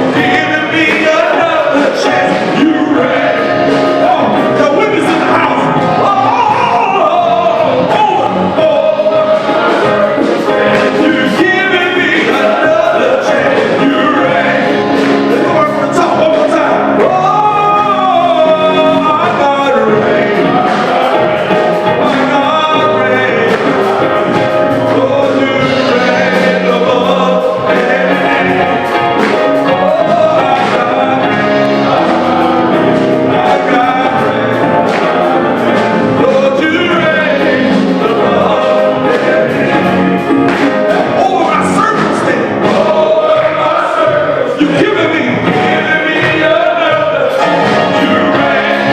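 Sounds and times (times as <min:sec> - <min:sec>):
band with steady beat: 0:00.0 - 0:48.9
voices singing gospel: 0:00.0 - 0:48.9.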